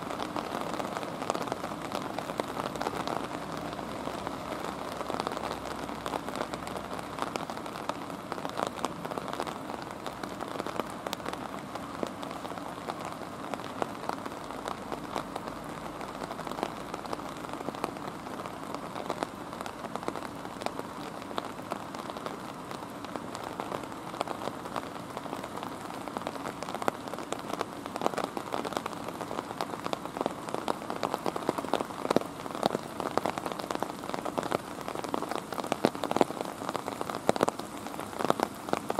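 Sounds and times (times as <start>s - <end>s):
rain falling steadily: 0.0s - 38.9s
raindrops ticking close by: 0.0s - 38.9s.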